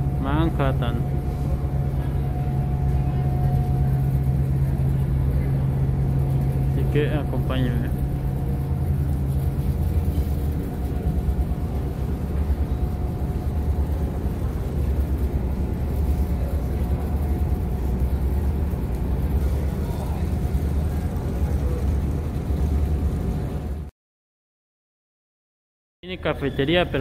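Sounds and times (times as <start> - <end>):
faint steady hum: 0.0 - 23.8
ferry engines rumbling: 0.0 - 23.9.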